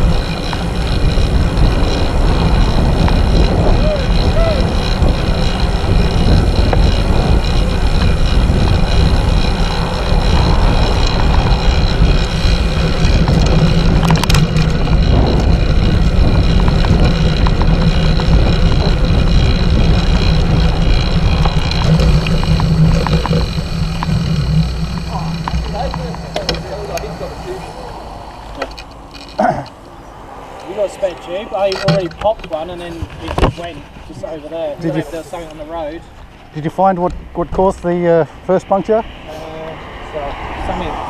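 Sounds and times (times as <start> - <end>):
wind and road noise from bicycle: 0.0 - 41.0.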